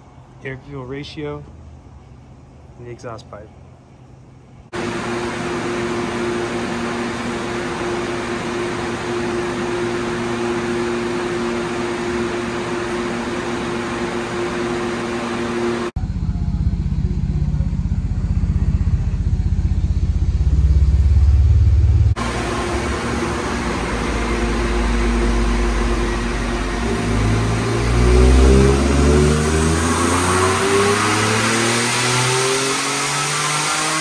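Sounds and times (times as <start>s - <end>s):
cooling fan rushing hum: 0.0s - 32.3s
car engine idling: 0.0s - 32.4s.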